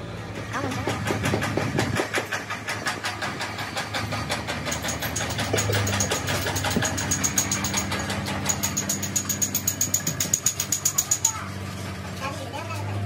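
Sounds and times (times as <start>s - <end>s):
workshop machine running: 0.0s - 13.0s.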